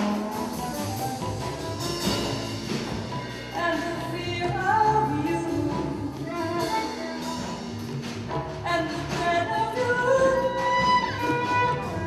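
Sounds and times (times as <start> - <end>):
drum and cymbal strokes: 0.0 - 12.0.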